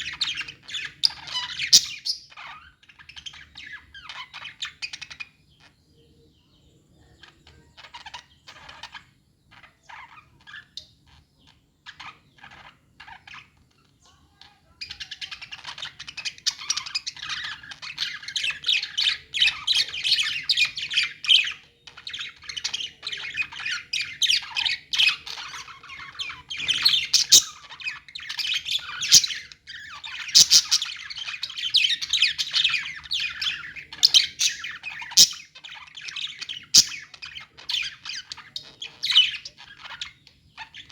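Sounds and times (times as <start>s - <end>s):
budgies chirping and squawking: 0.0s - 5.8s, 7.0s - 40.9s.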